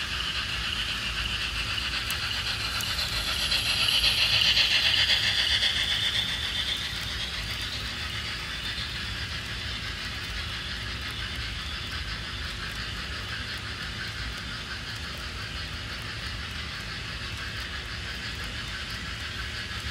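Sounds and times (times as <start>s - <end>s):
model train wheels rattling on rail: 0.0s - 19.9s.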